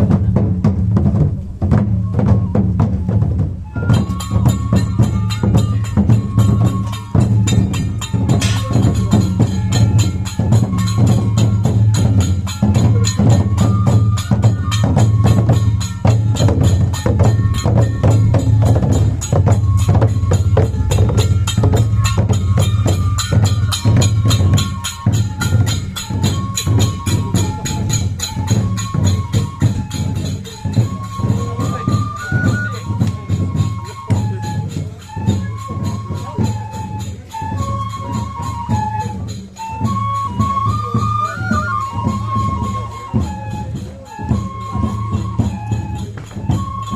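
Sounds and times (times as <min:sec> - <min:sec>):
flute melody: 0:00.0 - 0:46.9
percussion and drumming: 0:00.0 - 0:46.9.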